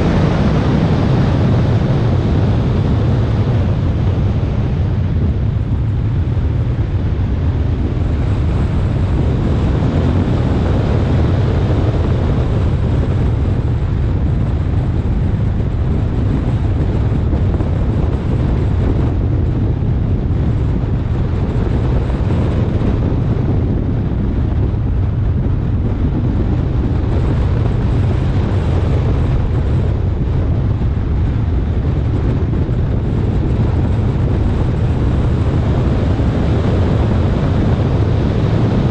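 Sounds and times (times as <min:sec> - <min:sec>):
car running noise: 0:00.0 - 0:38.9
wind buffeting on microphone: 0:00.0 - 0:38.9.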